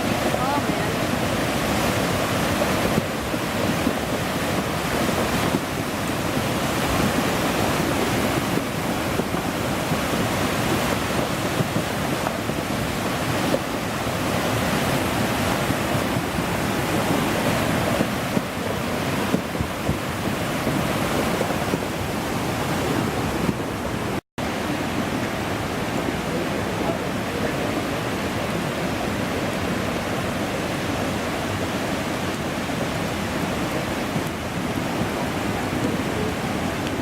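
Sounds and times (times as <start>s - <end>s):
floodwater rushing: 0.0s - 37.0s
wind buffeting microphone: 0.0s - 37.0s.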